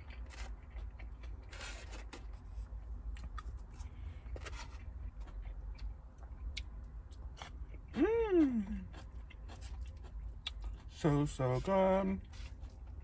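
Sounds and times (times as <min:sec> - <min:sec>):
person chewing: 0:00.0 - 0:13.0
steady low rumble: 0:00.0 - 0:13.0.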